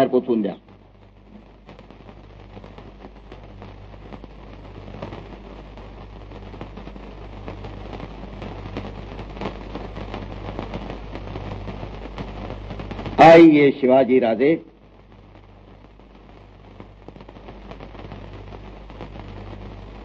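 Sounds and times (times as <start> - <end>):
film soundtrack crackle and hiss: 0.0 - 20.0
low mains hum: 0.0 - 20.0.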